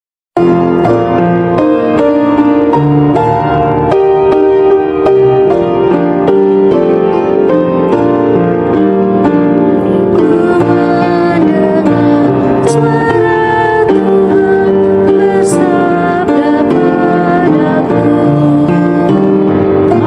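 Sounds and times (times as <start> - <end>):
keyboard playing hymn chords: 0.4 - 20.0.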